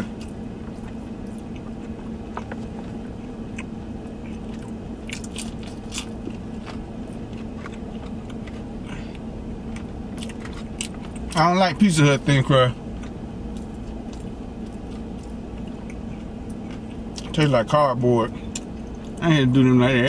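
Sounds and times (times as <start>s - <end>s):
chewing crunchy pizza: 0.0s - 20.0s
low hum: 0.0s - 20.0s.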